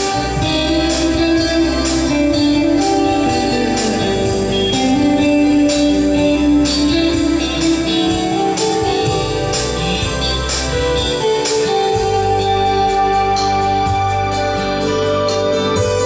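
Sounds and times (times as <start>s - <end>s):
backing track with beat and bass: 0.0s - 16.0s
guitar melody: 0.0s - 16.0s.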